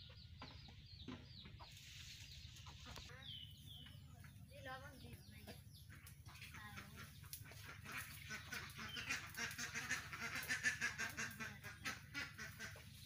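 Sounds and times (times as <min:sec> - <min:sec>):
birds chattering: 0:00.0 - 0:13.0.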